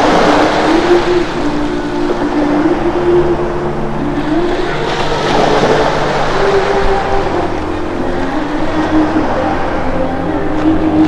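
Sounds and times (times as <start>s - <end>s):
held low musical tones: 0.0s - 11.0s
steady rushing noise: 0.0s - 11.0s.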